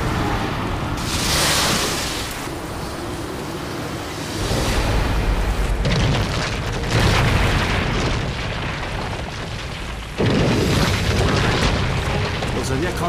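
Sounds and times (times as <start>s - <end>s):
deep rumble of landslide: 0.0s - 13.0s.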